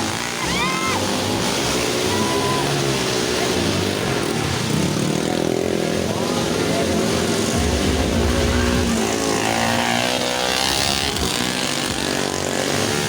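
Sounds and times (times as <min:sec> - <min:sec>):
motocross bikes revving: 0:00.0 - 0:13.0.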